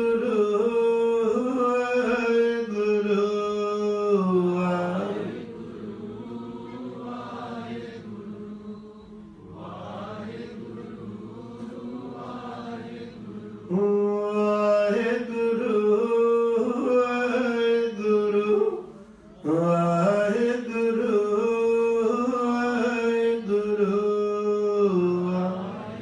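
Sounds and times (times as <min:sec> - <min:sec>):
congregation chanting: 0:00.0 - 0:26.0.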